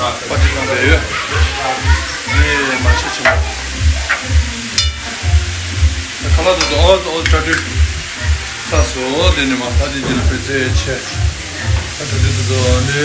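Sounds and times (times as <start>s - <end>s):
background music with bass beat: 0.0s - 13.0s
cabbage sizzling in a pan: 0.0s - 13.0s.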